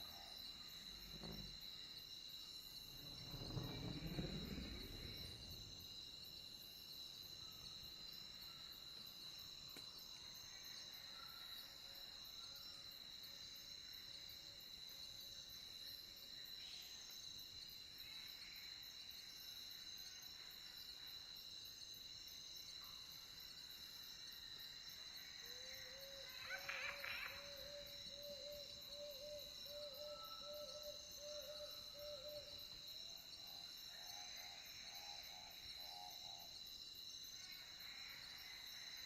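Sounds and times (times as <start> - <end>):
crickets chirring: 0.0 - 39.0.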